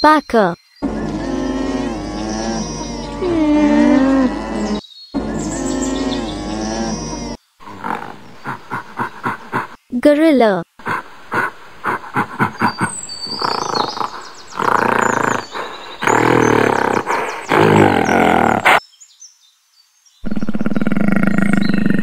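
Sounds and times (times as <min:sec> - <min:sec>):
birds chirping: 0:00.0 - 0:19.2, 0:20.2 - 0:22.0
animal growl: 0:00.8 - 0:09.8, 0:10.9 - 0:18.8, 0:20.2 - 0:22.0
gorilla roars and grunts: 0:00.8 - 0:09.8, 0:10.8 - 0:18.8, 0:20.2 - 0:22.0.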